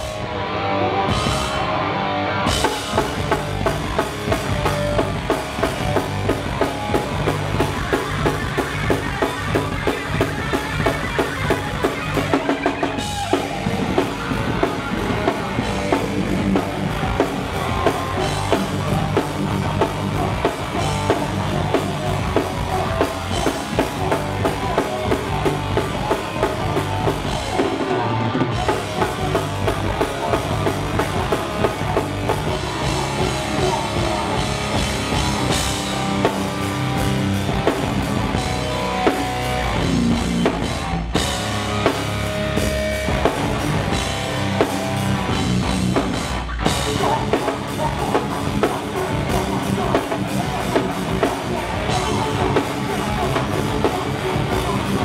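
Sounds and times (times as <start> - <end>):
drum kit pounding: 0.0 - 0.3, 1.1 - 1.8, 2.5 - 55.0
bass guitar: 0.0 - 55.0
electric guitar: 0.0 - 55.0.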